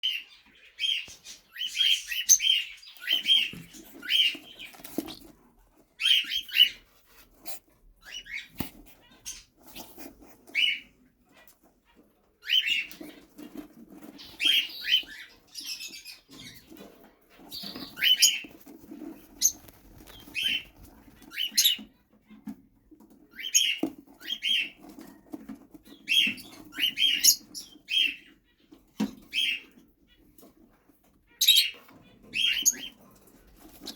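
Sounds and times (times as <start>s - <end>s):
cockatiels chirping: 0.0s - 22.3s, 23.0s - 33.9s.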